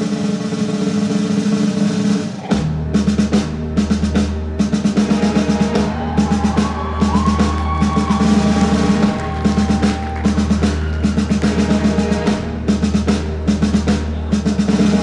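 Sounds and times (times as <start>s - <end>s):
driving drum beat: 0.0s - 15.0s
bass guitar: 2.4s - 15.0s.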